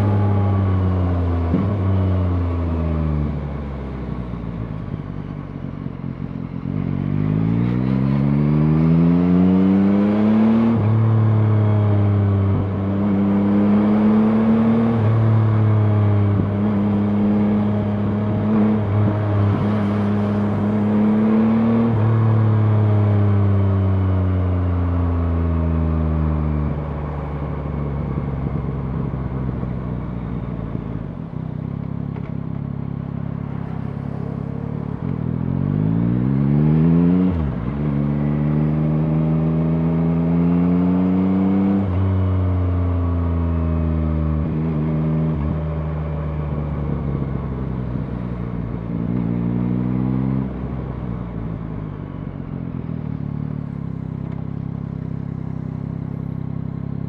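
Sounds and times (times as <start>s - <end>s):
motorcycle engine revving: 0.0s - 3.8s, 6.6s - 29.2s, 31.8s - 51.5s.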